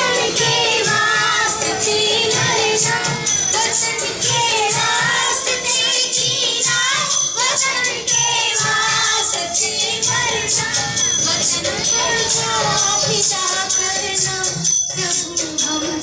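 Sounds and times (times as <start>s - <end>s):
children singing in unison: 0.0s - 14.7s.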